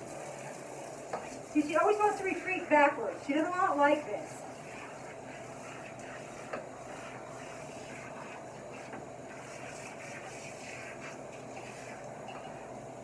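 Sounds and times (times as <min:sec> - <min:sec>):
shower water spraying on dog: 0:00.0 - 0:12.8.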